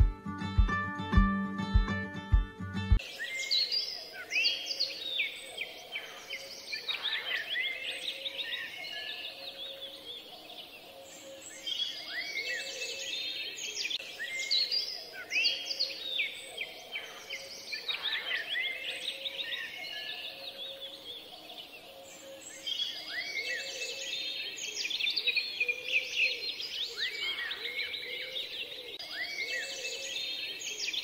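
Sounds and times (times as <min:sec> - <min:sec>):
birds chirping and singing: 0:03.0 - 0:31.0.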